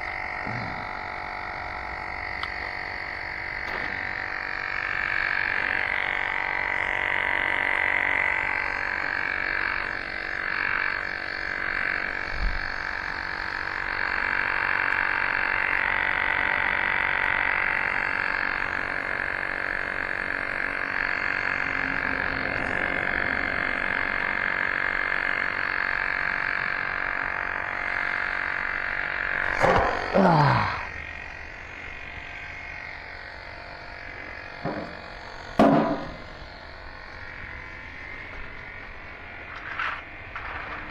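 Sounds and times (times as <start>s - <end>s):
electric tire pump running: 0.0s - 40.9s.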